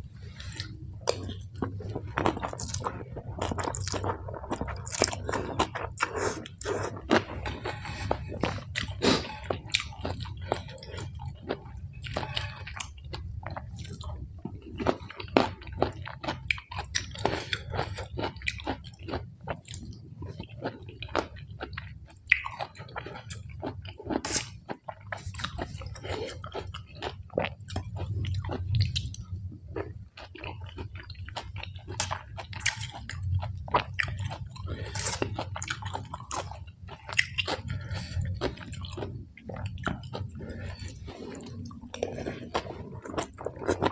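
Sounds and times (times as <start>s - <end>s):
low steady hum: 0.0s - 43.9s
wet chewing and crunching: 0.2s - 43.9s.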